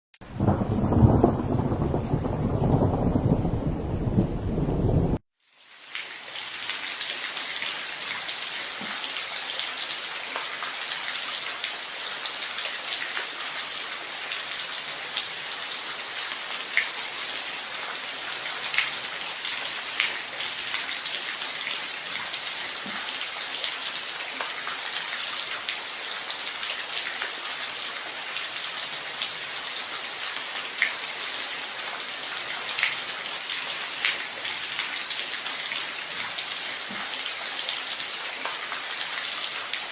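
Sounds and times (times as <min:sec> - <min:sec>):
steady rain hiss: 0:00.2 - 0:39.9.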